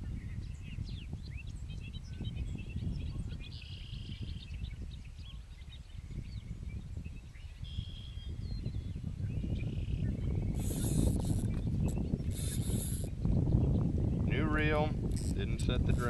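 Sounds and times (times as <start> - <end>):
birds singing and chirping: 0.0 - 16.0
wind rumble on microphone: 0.0 - 16.0.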